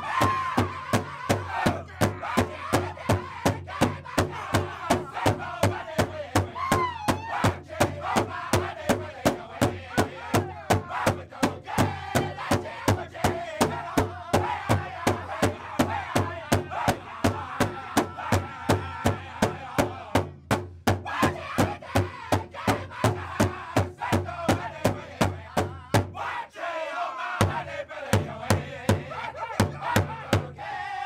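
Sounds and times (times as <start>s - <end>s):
group singing in high voices: 0.0s - 20.4s, 21.0s - 31.0s
large drum beat: 0.0s - 26.2s, 27.4s - 30.6s.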